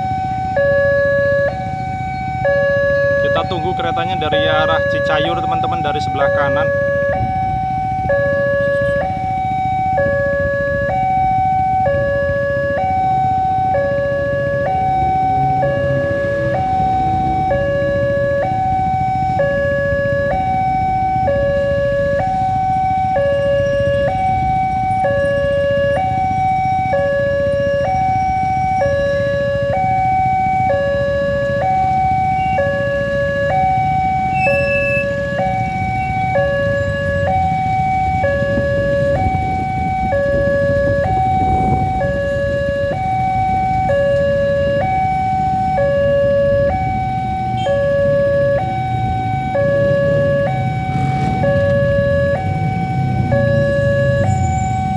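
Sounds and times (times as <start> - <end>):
two-tone level crossing alarm: 0.0 - 54.9.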